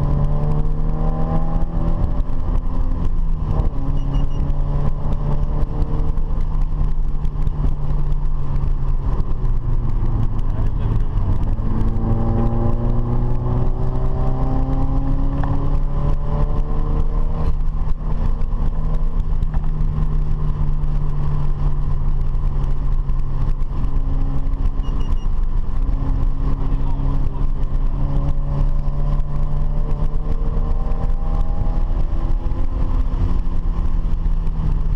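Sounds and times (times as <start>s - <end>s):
car engine running: 0.0s - 34.9s
road and wind rumble: 0.0s - 34.9s.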